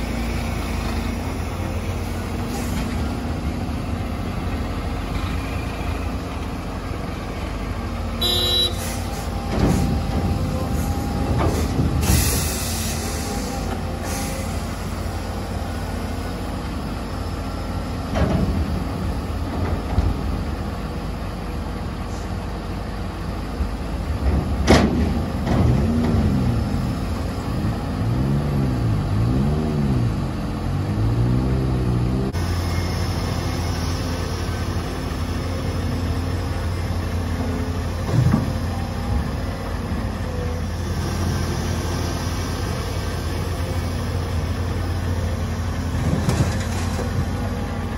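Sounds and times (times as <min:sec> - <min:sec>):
heavy diesel engines running: 0:00.0 - 0:47.9.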